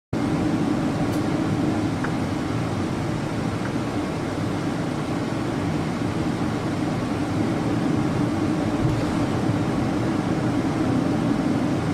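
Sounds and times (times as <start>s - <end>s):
airplane cabin engine drone: 0.2s - 11.9s.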